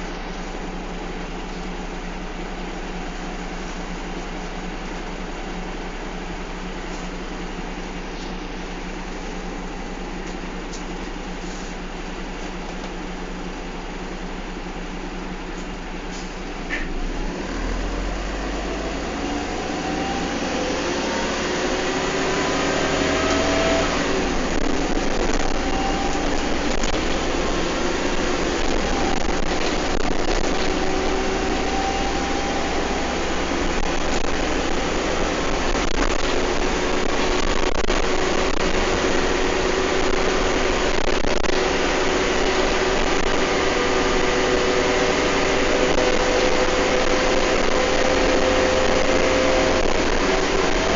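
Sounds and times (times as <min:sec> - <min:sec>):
bus engine whining: 0:00.0 - 0:50.9.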